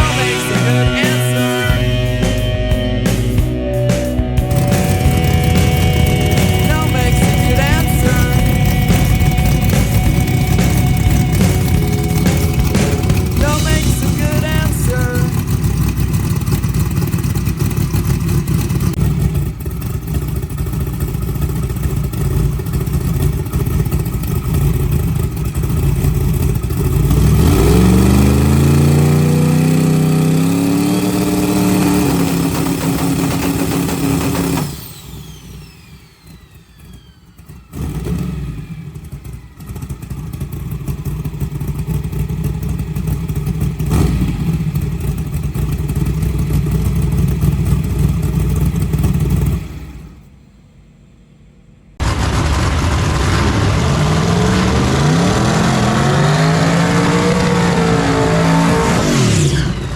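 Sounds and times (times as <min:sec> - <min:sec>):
race engine revving: 0:00.0 - 0:35.8, 0:37.7 - 0:50.1, 0:52.0 - 0:59.9
whines: 0:00.0 - 0:50.4, 0:52.0 - 0:59.9.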